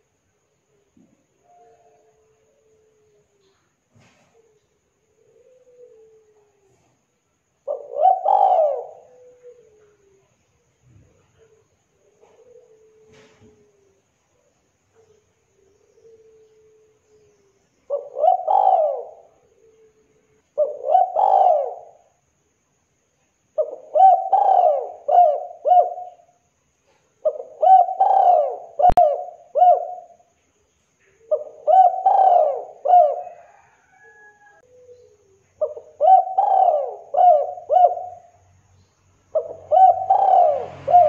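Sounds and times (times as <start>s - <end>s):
dove cooing: 1.4s - 7.0s, 7.6s - 14.0s, 14.9s - 17.3s, 17.9s - 22.2s, 23.6s - 30.3s, 31.0s - 38.4s, 39.3s - 41.0s.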